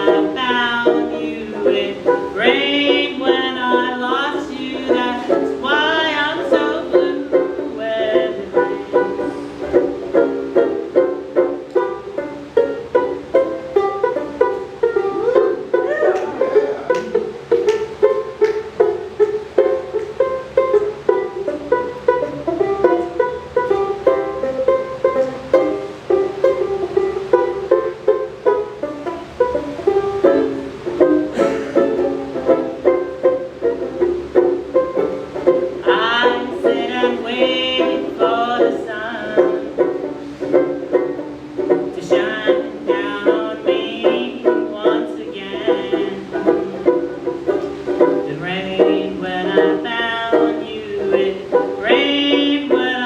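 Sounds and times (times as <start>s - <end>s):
ukulele strumming: 0.0s - 53.0s.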